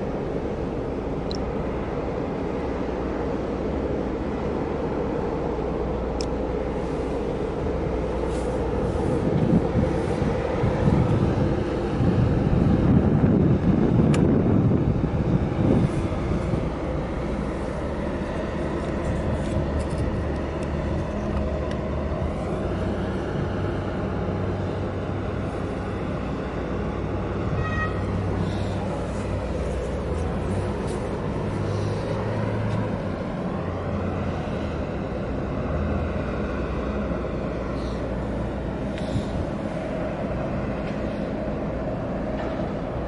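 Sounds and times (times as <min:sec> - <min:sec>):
ship engine rumble: 0:00.0 - 0:43.0.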